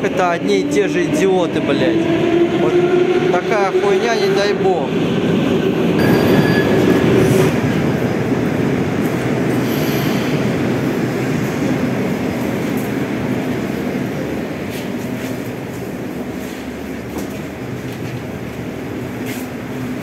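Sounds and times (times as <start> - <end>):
metro train rumble: 0.0 - 20.0.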